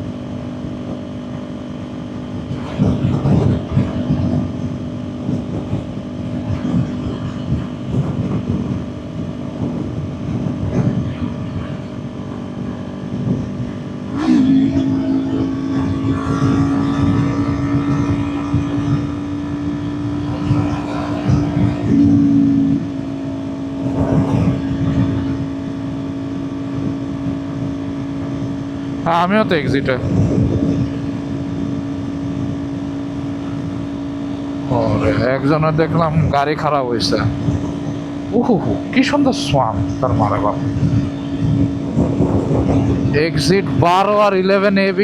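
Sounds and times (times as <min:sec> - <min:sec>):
motorcycle engine cruising: 0:00.0 - 0:45.0
wind rushing over microphone: 0:00.0 - 0:45.0.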